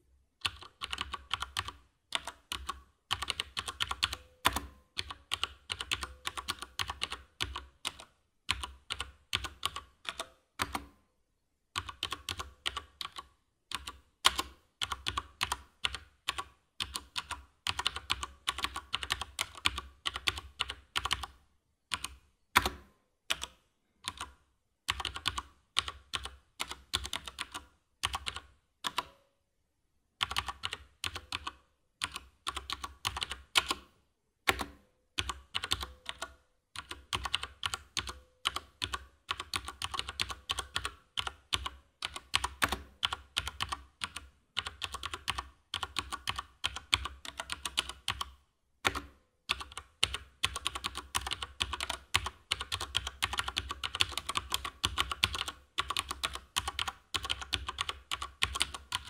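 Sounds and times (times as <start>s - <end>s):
mechanical keyboard typing: 0.4s - 11.0s, 11.8s - 29.2s, 30.2s - 33.9s, 34.5s - 59.0s.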